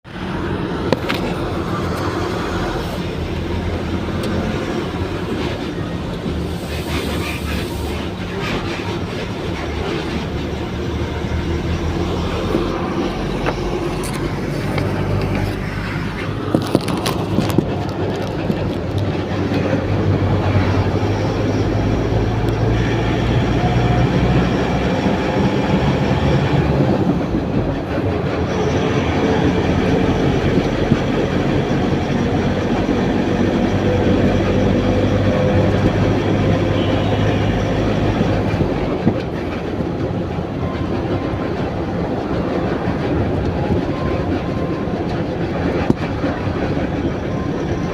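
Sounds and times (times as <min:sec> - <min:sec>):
heavy vehicle driving drone: 0:00.0 - 0:47.9.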